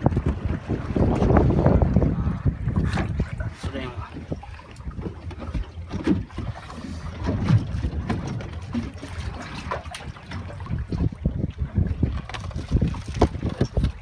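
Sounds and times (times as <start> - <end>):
waves slapping boat hull: 0.0 - 14.0
wind rumbling on microphone: 0.0 - 14.0.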